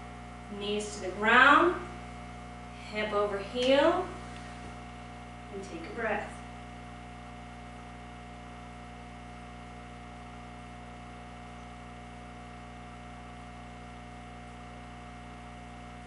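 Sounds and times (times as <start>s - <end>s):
electrical hum: 0.0s - 16.0s
high steady whine: 0.0s - 16.0s.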